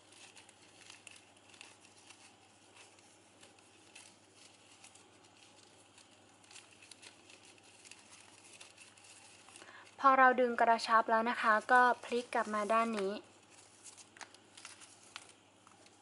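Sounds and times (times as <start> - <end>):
ribbon crinkling and rustling: 0.0 - 16.0.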